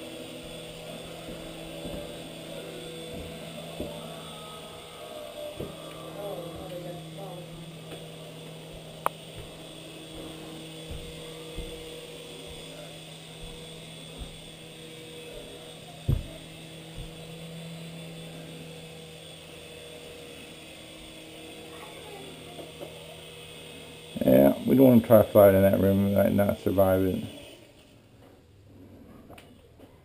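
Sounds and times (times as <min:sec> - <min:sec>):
toy helicopter motor hum and whine: 0:00.0 - 0:29.9.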